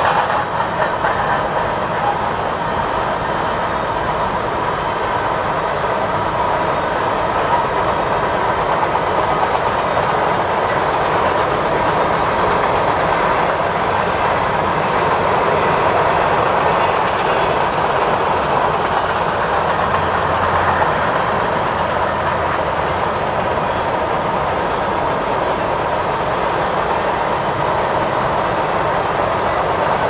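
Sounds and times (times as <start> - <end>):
freight train cars rolling past: 0.0 - 30.0
steel wheels on rails: 0.0 - 30.0.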